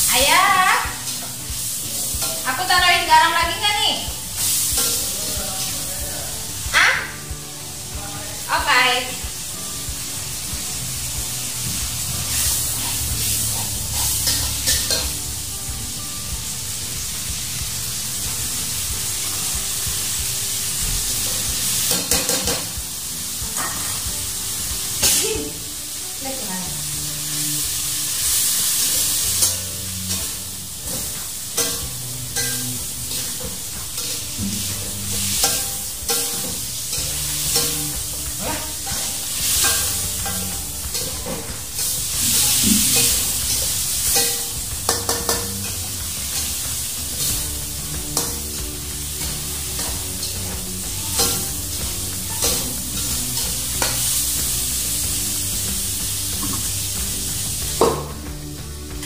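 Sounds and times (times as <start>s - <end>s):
high sizzle of frying: 0.0s - 59.0s
spatula scraping a wok: 0.1s - 6.8s, 10.2s - 25.2s, 26.8s - 58.2s.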